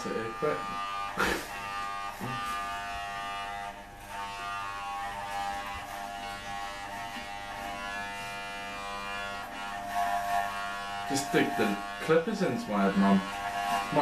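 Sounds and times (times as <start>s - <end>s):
hair clippers buzzing: 0.0s - 14.0s.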